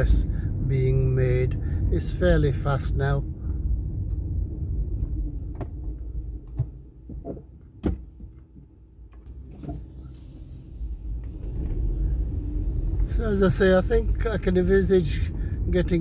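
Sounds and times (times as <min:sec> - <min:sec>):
road rumble in car cabin: 0:00.0 - 0:16.0.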